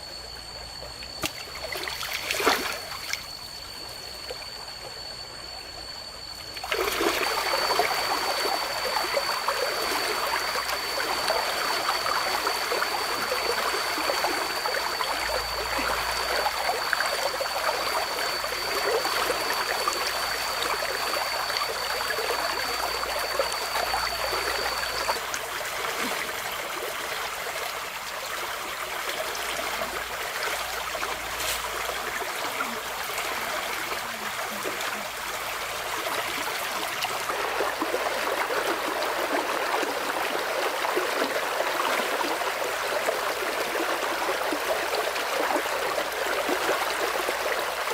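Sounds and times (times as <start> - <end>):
thin high tone: 0.0 - 47.5.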